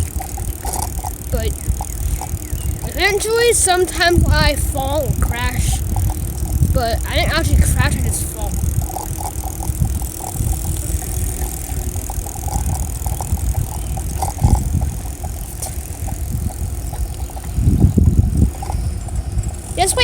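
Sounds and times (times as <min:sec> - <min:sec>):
wind and road noise rumble: 0:00.0 - 0:20.0.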